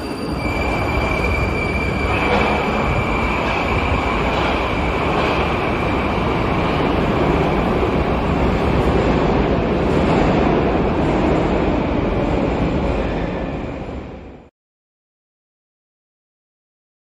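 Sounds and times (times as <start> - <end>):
train wheels rumbling on rail: 0.0 - 14.5.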